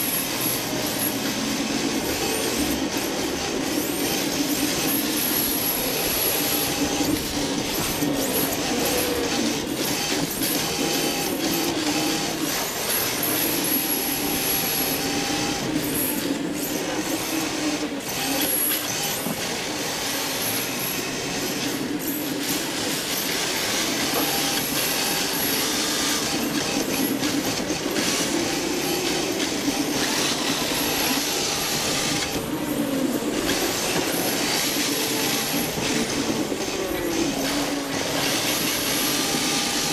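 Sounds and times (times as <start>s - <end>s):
electric motor and gears whining: 0.0s - 39.9s.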